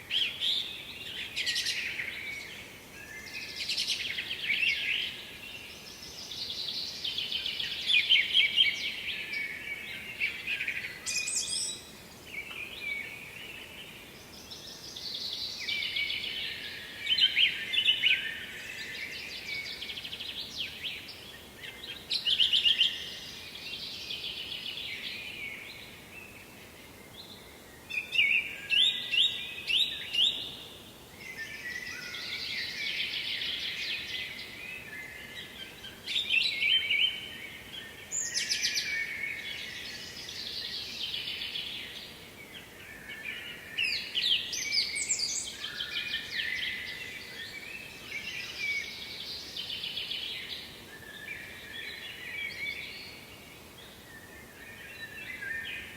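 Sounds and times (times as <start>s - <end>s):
faint background hiss: 0.0s - 55.9s.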